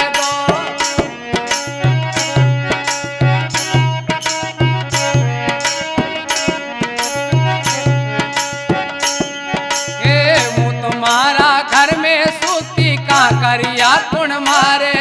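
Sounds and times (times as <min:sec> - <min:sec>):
sustained folk melody: 0:00.0 - 0:15.0.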